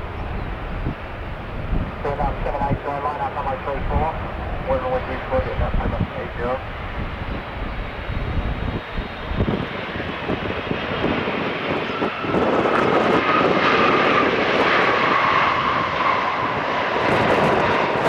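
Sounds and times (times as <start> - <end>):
jet engine whine falling in pitch: 0.0 - 18.0
jet engines rushing: 0.0 - 18.0.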